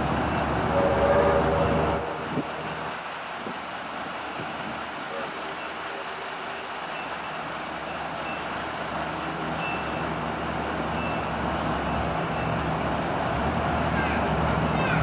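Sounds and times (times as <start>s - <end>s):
steam locomotive rumble and hiss: 0.0s - 15.0s.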